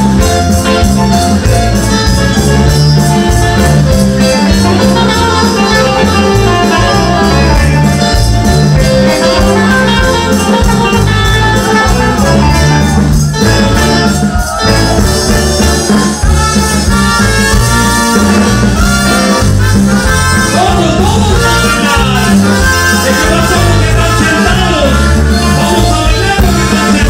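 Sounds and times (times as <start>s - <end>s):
latin dance music with heavy bass: 0.0s - 27.0s.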